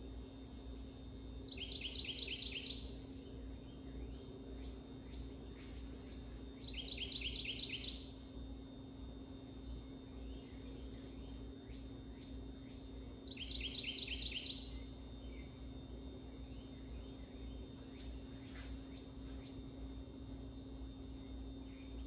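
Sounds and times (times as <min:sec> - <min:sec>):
steady low hum: 0:00.0 - 0:22.0
songbird trills: 0:00.1 - 0:22.0.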